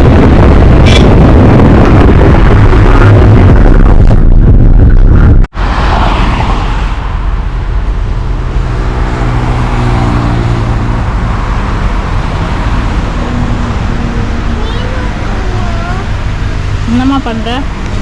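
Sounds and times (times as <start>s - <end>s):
car engine and road noise: 0.0s - 18.0s
low engine hum: 0.0s - 18.0s.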